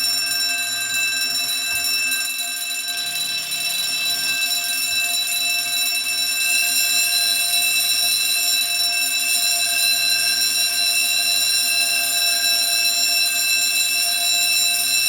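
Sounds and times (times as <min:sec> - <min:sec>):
fire alarm bells ringing: 0:00.0 - 0:15.0.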